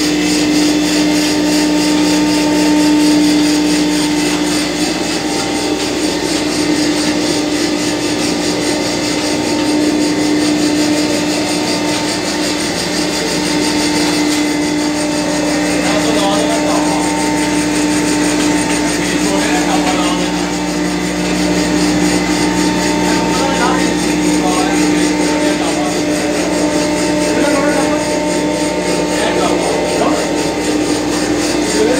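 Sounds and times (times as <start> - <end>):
machine motor humming and whirring: 0.0 - 31.9.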